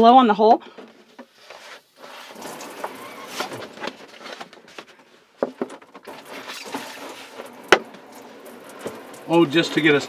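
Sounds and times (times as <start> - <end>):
plastic handling noise: 0.7 - 9.2.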